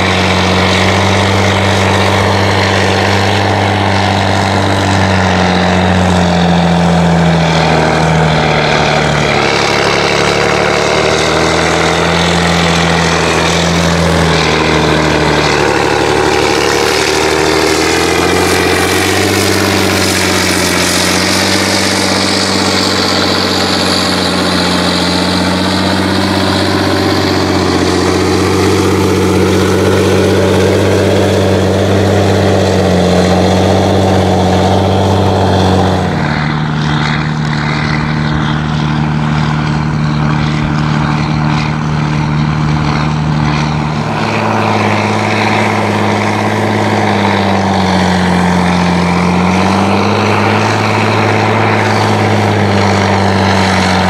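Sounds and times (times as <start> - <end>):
tractor engine under heavy load: 0.0 - 54.0
whine above engine: 0.0 - 54.0.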